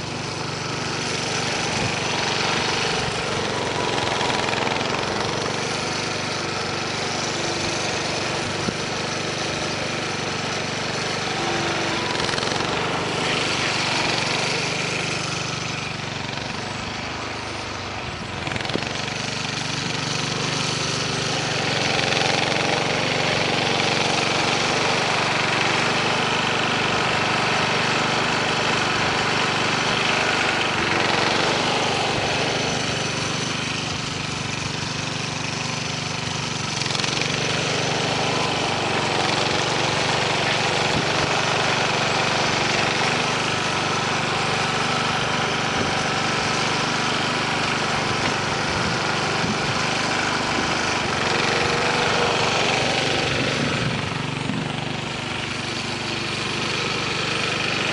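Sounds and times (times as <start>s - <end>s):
garden tractor engine running: 0.0s - 57.9s.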